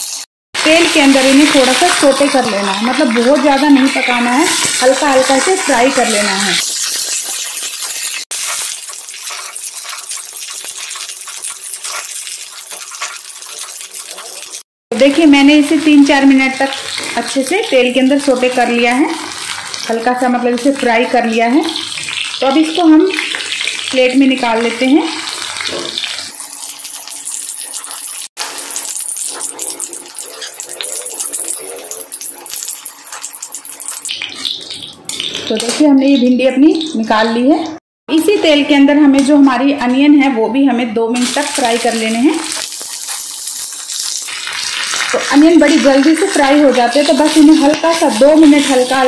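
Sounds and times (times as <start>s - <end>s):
vegetables sizzling in oil: 0.0s - 37.3s, 41.2s - 49.0s.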